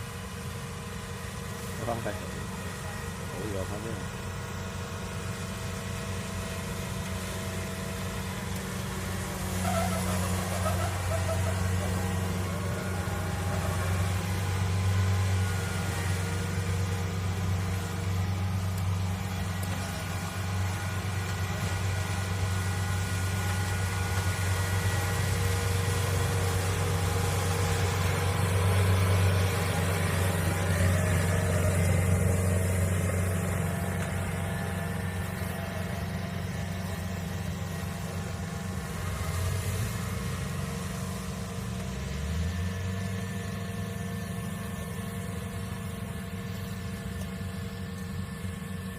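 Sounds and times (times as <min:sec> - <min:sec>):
combine harvester diesel engine: 0:00.0 - 0:48.9.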